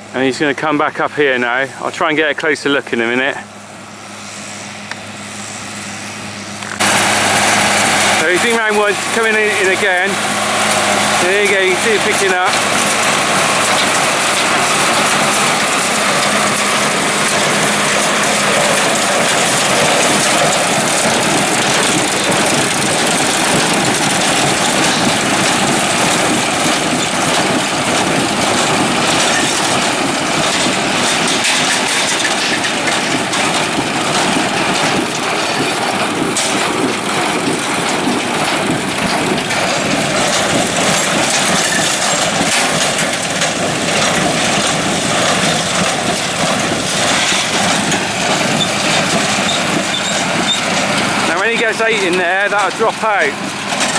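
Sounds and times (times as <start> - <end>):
tractor engine under load: 0.0 - 53.9
baler mechanical clatter: 4.7 - 53.9.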